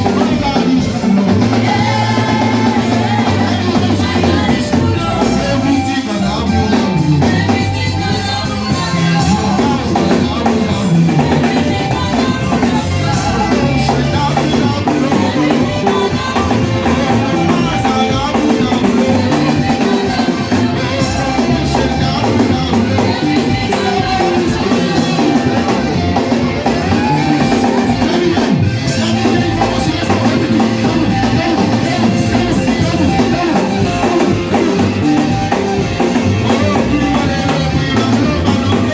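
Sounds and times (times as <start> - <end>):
people singing: 0.0 - 38.9
praise band with drum kit: 0.0 - 38.9.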